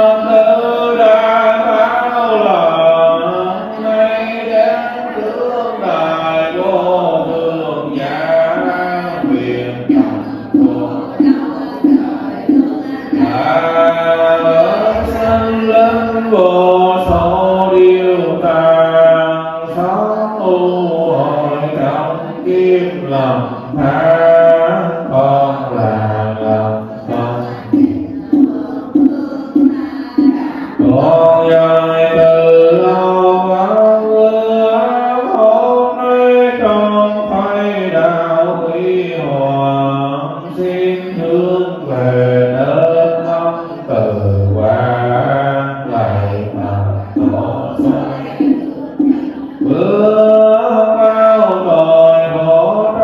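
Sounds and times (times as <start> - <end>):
voices chanting in unison: 0.0 - 53.0.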